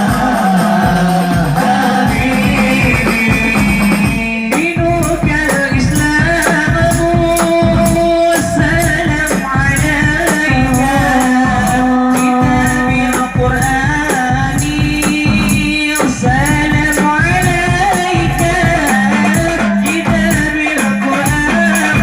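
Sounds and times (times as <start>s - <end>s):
frame drums: 0.0s - 22.0s
voices singing a melody: 0.0s - 22.0s
jingling percussion: 1.2s - 22.0s.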